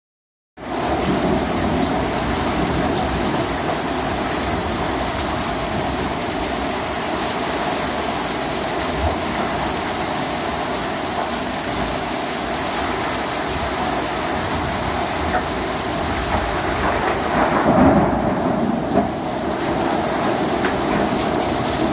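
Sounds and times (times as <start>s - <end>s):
heavy rain falling: 0.6s - 21.9s.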